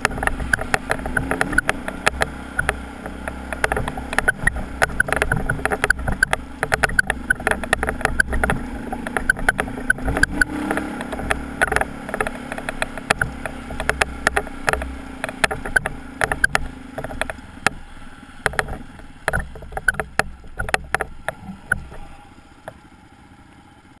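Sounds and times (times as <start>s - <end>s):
motorcycle rattling over stones: 0.0s - 23.1s
motorcycle engine at low speed: 0.0s - 24.0s.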